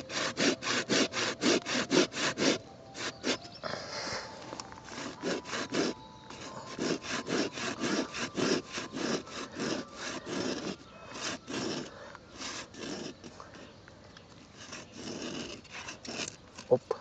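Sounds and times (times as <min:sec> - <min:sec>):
saw rasping through wood: 0:00.0 - 0:03.6, 0:04.6 - 0:13.7, 0:14.4 - 0:16.8.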